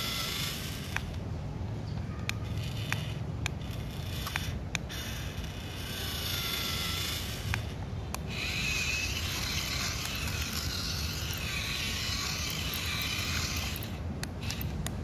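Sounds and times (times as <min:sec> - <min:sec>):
toy robot motors whirring: 0:00.0 - 0:01.3, 0:02.2 - 0:15.0.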